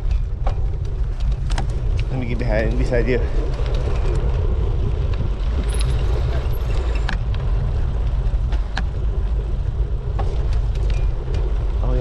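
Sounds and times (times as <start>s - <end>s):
tyre noise on road: 0.0s - 12.0s
wind rushing over microphone: 0.0s - 12.0s.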